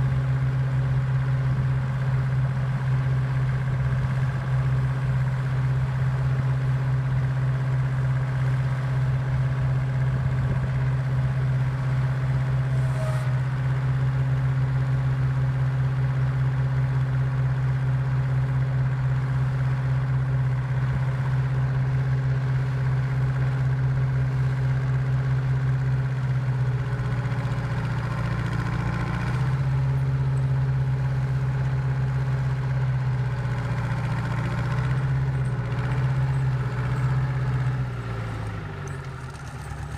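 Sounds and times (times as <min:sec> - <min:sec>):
grader engine idling: 0:00.0 - 0:39.9.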